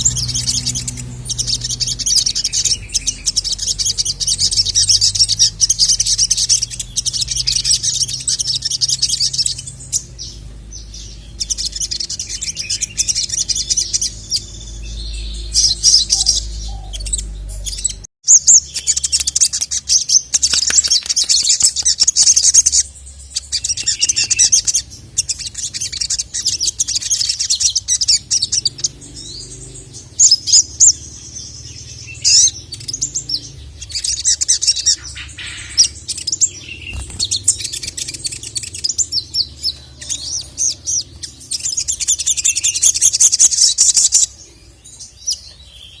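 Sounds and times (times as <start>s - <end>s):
bird high-pitched trills: 0.0s - 46.0s
bird sharp chips: 0.0s - 46.0s.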